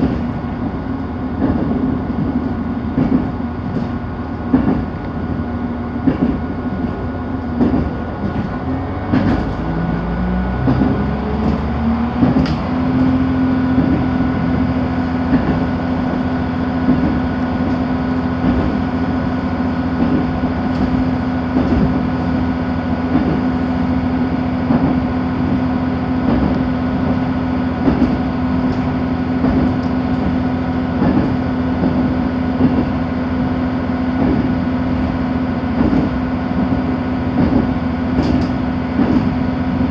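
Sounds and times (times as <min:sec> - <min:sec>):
railbus drive hum: 0:00.0 - 0:39.9
train rolling noise: 0:00.0 - 0:39.9.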